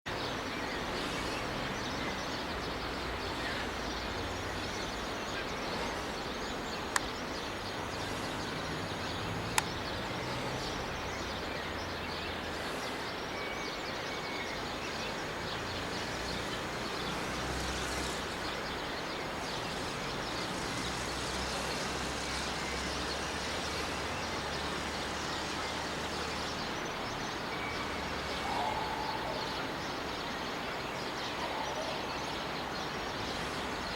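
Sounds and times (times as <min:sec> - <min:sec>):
birds chirping: 0:00.1 - 0:33.9
distant traffic rumble: 0:00.1 - 0:33.9.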